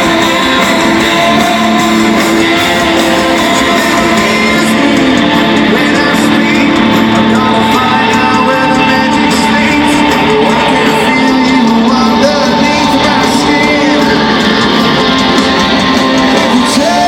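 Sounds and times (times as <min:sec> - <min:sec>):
rock band playing live: 0:00.0 - 0:17.0
strummed electric guitars: 0:00.0 - 0:17.0.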